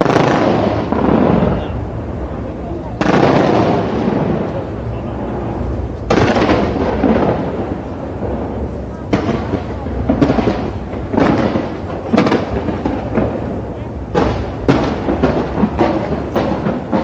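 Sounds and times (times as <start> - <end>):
fireworks bursting with deep booms: 0.0 - 17.0.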